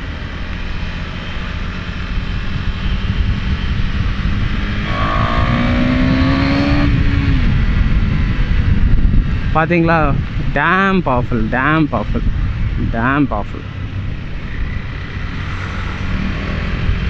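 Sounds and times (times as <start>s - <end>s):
motorcycle engine accelerating: 0.0s - 9.6s, 12.2s - 17.0s
wind noise: 0.0s - 17.0s.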